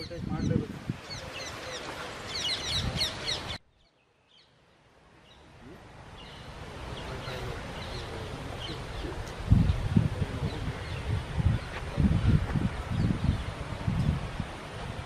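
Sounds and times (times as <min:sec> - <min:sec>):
many birds chirping: 0:00.0 - 0:04.6, 0:05.2 - 0:14.3.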